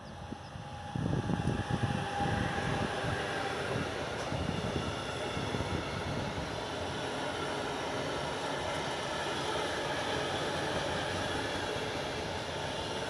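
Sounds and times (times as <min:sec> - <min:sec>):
electric locomotive passing: 0:00.0 - 0:13.0
train wheels rumbling on rails: 0:00.0 - 0:13.0.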